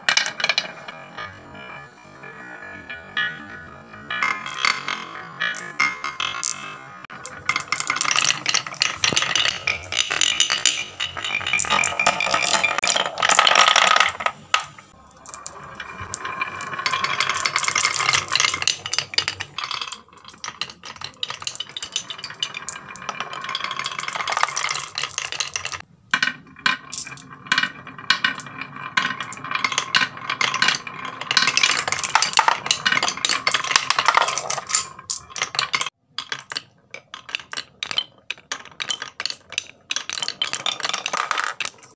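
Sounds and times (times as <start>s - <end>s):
marbles clattering on wooden tracks: 0.0s - 41.9s.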